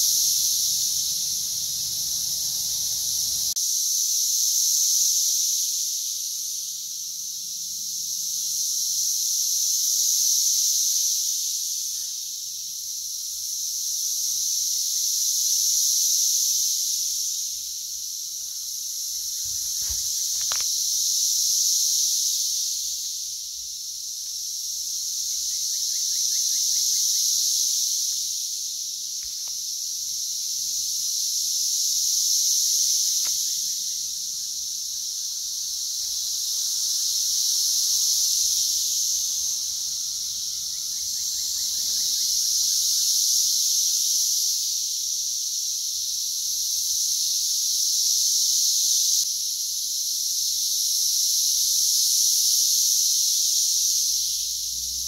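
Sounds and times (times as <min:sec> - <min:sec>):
cicadas chorus drone: 0:00.0 - 0:55.0.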